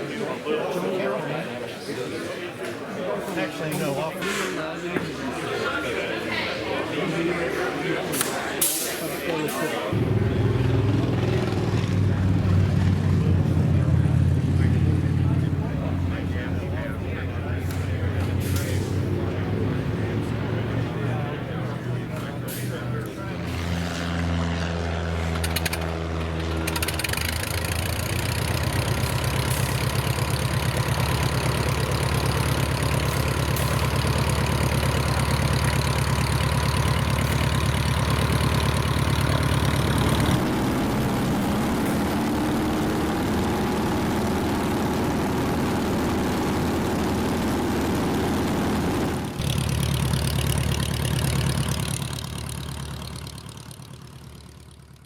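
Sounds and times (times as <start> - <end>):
light aircraft piston engine: 7.9 - 55.0.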